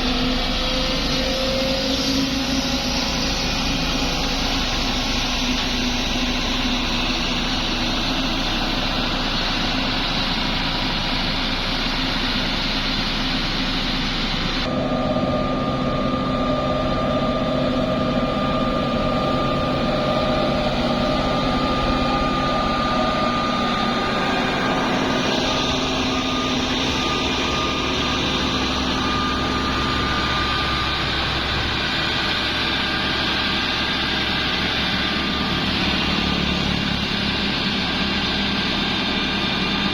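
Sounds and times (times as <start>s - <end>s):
heavy machinery engines running: 0.0s - 39.9s
steady whine: 0.0s - 39.9s.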